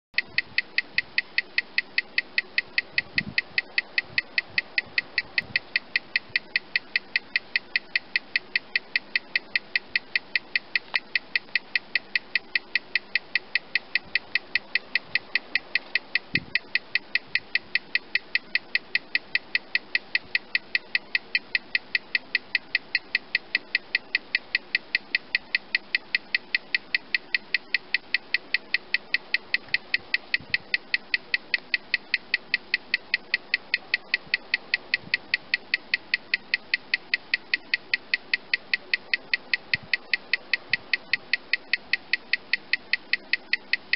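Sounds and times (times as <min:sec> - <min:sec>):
watch ticking: 0:00.2 - 0:43.9.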